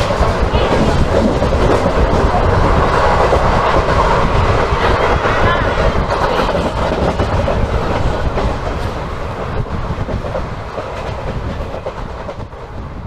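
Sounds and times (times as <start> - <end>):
train knocks: 0.0 - 13.0
train wheel and track noise: 0.0 - 13.0.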